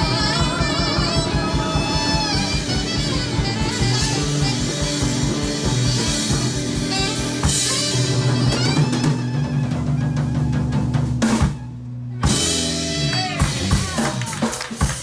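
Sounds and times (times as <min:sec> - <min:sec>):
bass notes: 0:00.0 - 0:14.9
drum kit beat: 0:00.0 - 0:15.0
guitar: 0:00.0 - 0:15.0.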